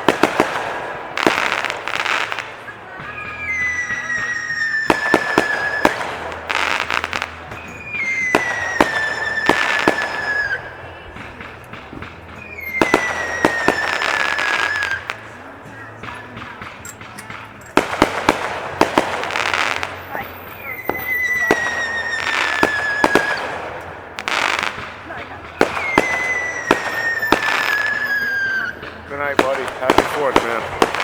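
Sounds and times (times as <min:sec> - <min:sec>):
fireworks bangs and crackling: 0:00.0 - 0:31.0
fireworks falling whistles: 0:00.0 - 0:31.0.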